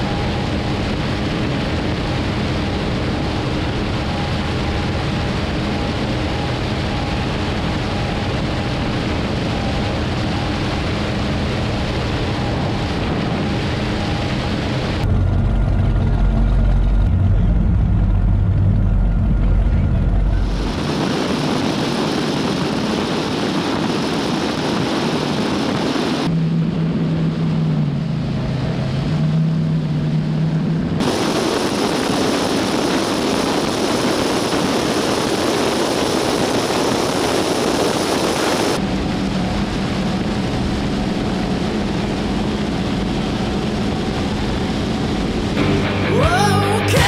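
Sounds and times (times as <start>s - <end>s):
wind rushing on microphone: 0.0s - 45.6s
powerboat engine drone: 0.0s - 47.0s.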